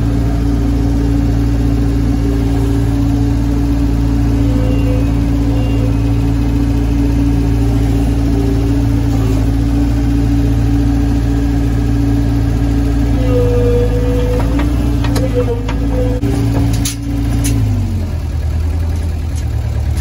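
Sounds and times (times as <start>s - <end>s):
high-pitched hydraulic whine: 0.0s - 17.8s
skid steer engine running: 0.0s - 20.0s.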